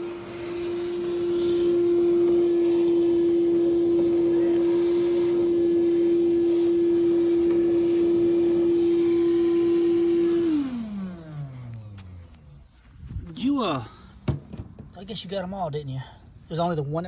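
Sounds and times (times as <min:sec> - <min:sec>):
vacuum pump whining: 0:00.0 - 0:15.0.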